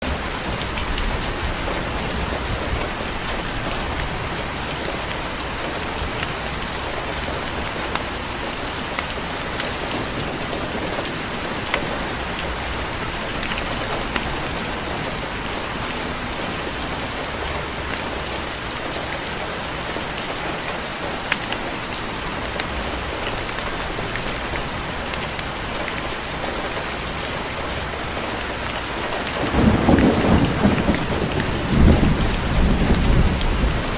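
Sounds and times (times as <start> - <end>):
rain falling on a porch: 0.0 - 33.9.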